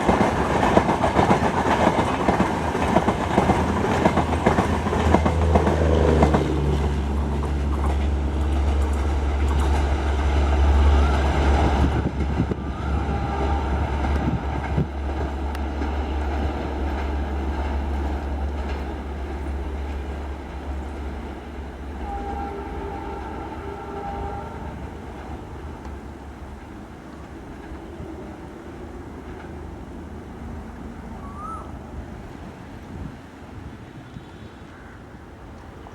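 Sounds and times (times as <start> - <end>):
train wheels clattering on rails: 0.0 - 30.6
train rumble: 0.0 - 35.9.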